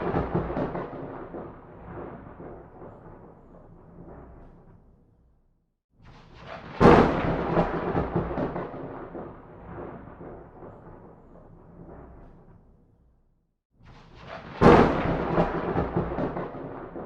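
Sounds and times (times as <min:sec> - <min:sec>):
thunder clap: 0:00.0 - 0:04.8, 0:06.4 - 0:12.6, 0:14.2 - 0:17.0.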